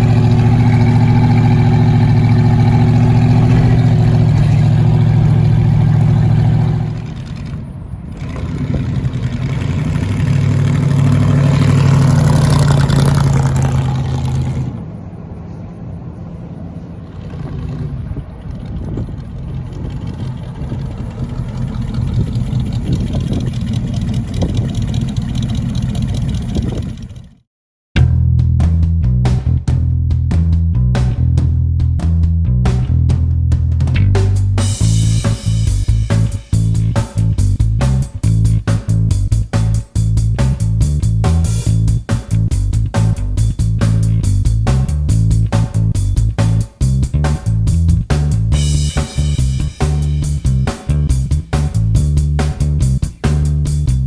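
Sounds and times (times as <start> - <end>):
car engine running: 0.0 - 27.4, 33.8 - 54.0.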